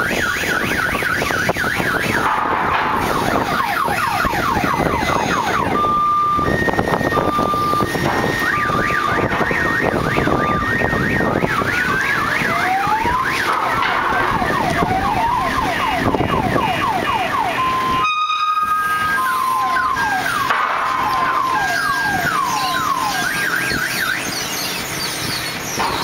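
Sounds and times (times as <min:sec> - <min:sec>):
electronic warning sirens: 0:00.0 - 0:26.0
engines rumbling: 0:00.0 - 0:26.0.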